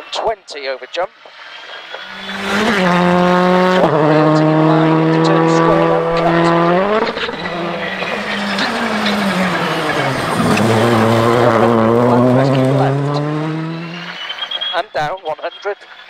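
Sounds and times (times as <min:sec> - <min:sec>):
rally car engine high revs: 0:01.6 - 0:14.7.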